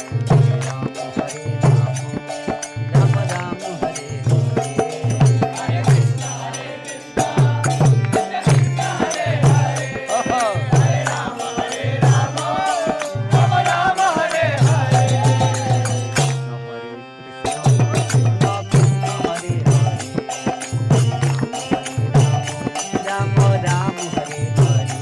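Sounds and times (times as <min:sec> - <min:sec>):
repeating drum beat: 0:00.0 - 0:16.5, 0:17.4 - 0:25.0
person chanting a melody: 0:00.0 - 0:20.0.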